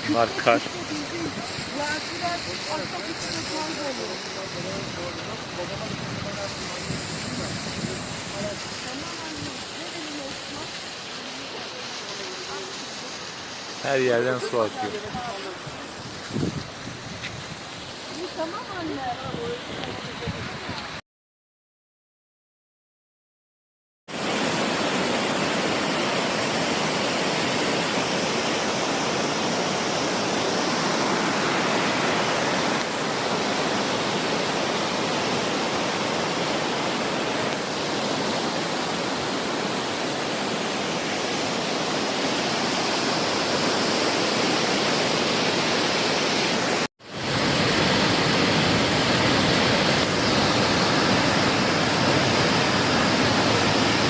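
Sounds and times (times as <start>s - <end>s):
rushing water roar: 0.0s - 21.0s, 24.1s - 54.0s.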